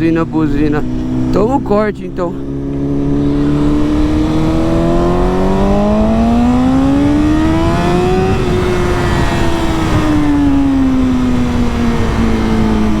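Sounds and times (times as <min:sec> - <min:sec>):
motorcycle engine revving: 0:00.0 - 0:13.0
wind rush: 0:00.0 - 0:13.0.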